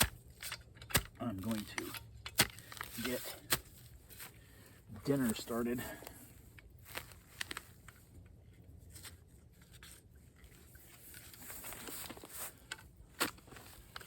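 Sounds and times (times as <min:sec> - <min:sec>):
camp gear rustling and clicking: 0:00.0 - 0:14.0.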